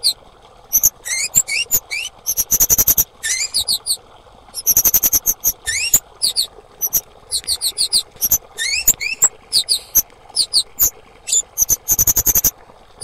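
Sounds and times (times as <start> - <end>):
bird chips and whistles: 0.0 - 4.0, 4.6 - 12.5.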